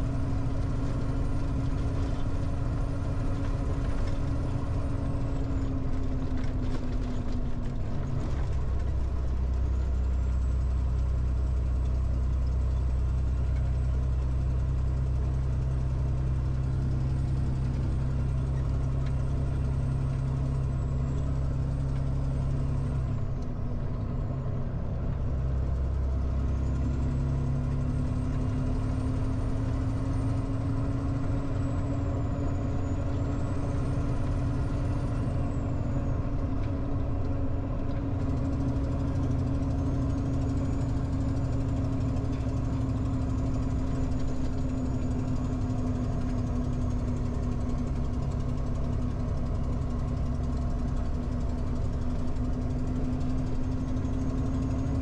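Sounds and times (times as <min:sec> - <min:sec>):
road rumble: 0:00.0 - 0:55.0
truck diesel engine drone: 0:00.0 - 0:55.0.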